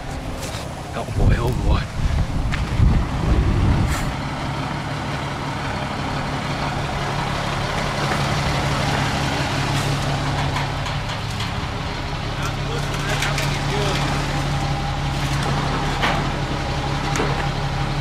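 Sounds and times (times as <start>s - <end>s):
truck engine running under load: 0.0s - 18.0s.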